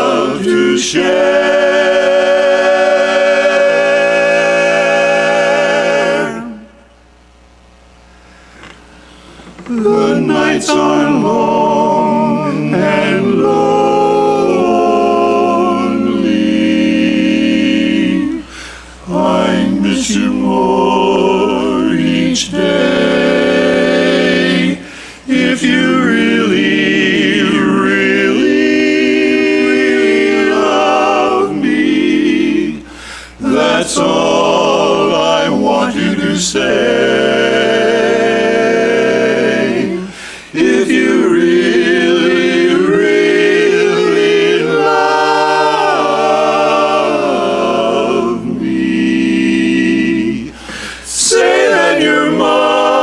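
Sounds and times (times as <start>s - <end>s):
barbershop quartet singing: 0.0s - 7.0s, 8.7s - 53.0s.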